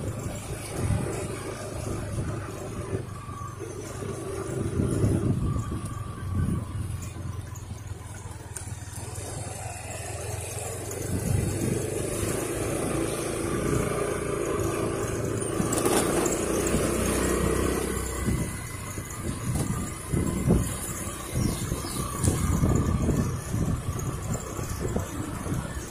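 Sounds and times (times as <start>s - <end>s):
scooter engine droning: 0.0s - 25.9s
wind buffeting on microphone: 0.0s - 25.9s.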